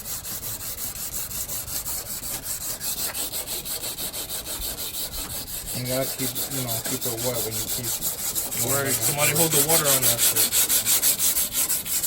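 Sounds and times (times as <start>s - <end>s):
sandpaper rubbing on a surface: 0.0s - 12.0s.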